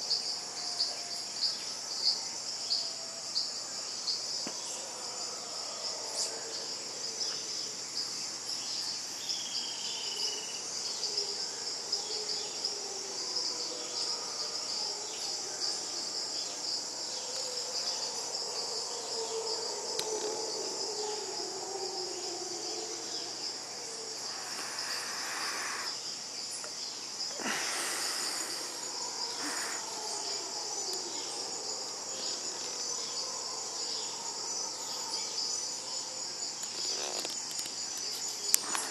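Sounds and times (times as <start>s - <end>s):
distant monkeys howling: 0.0s - 38.9s
high-pitched insect chorus: 0.0s - 38.9s.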